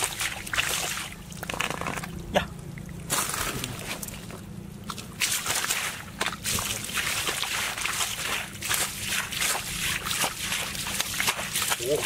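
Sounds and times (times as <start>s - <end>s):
bare feet wading in muddy water: 0.0s - 2.0s, 2.8s - 12.0s.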